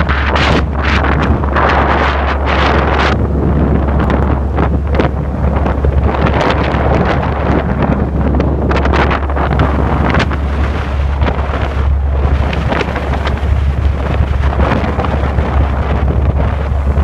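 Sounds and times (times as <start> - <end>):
steady low drone: 0.0 - 17.0
waves breaking: 0.0 - 17.0
wind buffeting microphone: 0.0 - 17.0.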